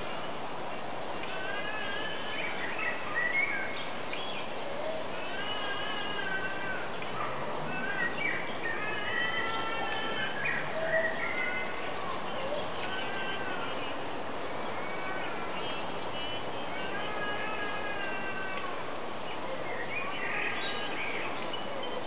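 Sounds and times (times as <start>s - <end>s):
steady background hiss: 0.0s - 22.0s
birds singing and chirping: 1.2s - 22.0s.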